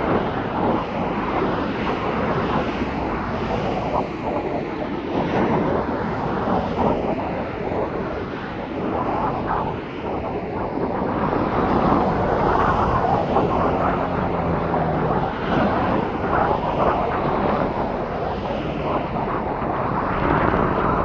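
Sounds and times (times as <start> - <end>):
airplane engine: 0.0 - 21.0
wind gusting on microphone: 0.0 - 21.0.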